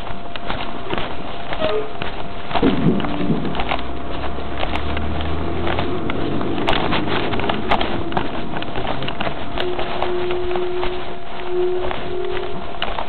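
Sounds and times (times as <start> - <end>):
sharp knocks and rattles: 0.0 - 11.3
truck engine running: 0.0 - 13.0.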